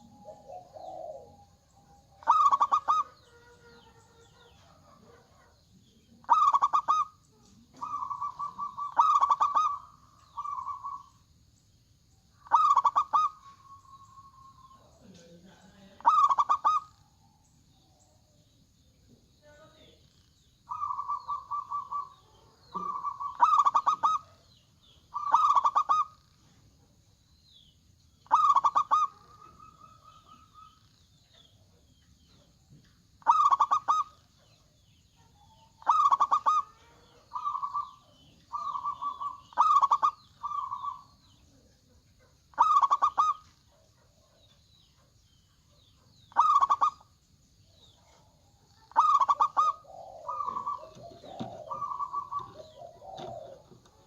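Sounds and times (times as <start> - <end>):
dove cooing: 0.0 - 11.3, 12.4 - 17.0, 20.7 - 26.3, 28.2 - 32.4, 33.2 - 44.6, 45.8 - 47.1, 47.7 - 54.0.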